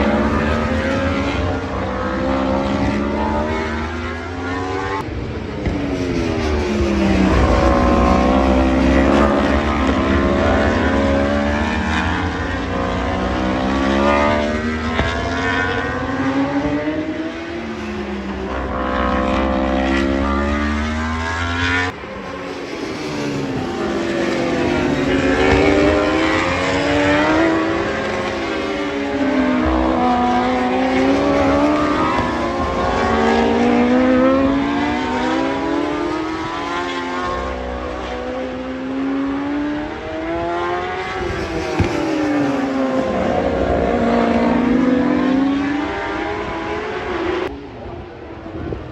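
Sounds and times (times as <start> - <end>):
racing motorcycles revving past: 0.0 - 47.6.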